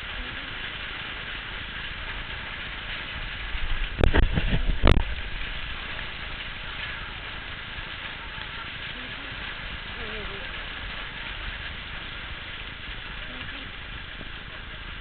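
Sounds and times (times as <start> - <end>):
hail and wind storm: 0.0 - 15.0.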